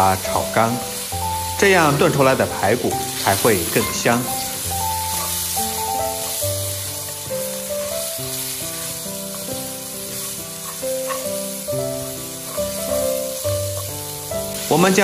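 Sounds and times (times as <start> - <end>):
background music: 0.0 - 15.0
ribs sizzling in hot oil: 0.0 - 15.0.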